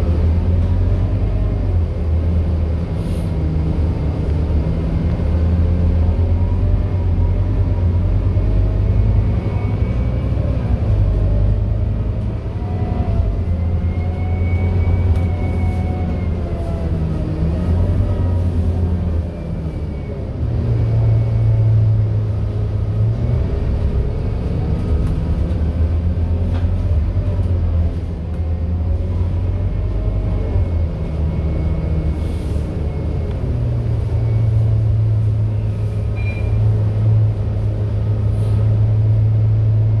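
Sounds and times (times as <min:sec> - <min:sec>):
bus diesel engine humming: 0:00.0 - 0:40.0.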